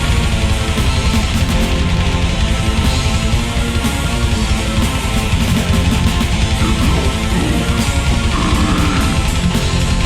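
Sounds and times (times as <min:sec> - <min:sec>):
symphonic black metal music: 0:00.0 - 0:10.0.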